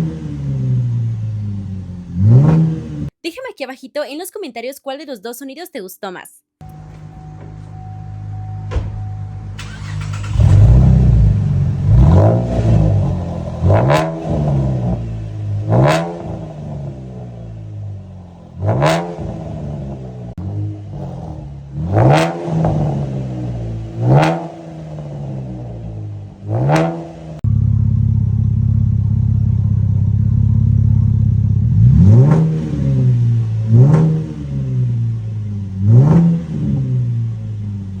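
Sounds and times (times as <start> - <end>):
car engine revving: 0.0 - 3.1, 6.6 - 38.0
car engine running low: 0.0 - 3.1, 6.6 - 38.0.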